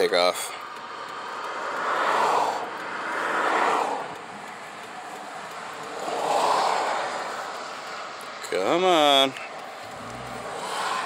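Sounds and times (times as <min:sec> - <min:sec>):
cars passing by: 0:00.0 - 0:11.0.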